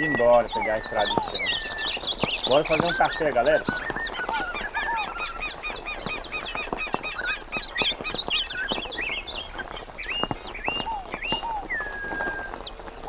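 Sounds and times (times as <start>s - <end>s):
birds chirping and whistling: 0.0s - 13.0s
small ticks: 0.0s - 13.0s.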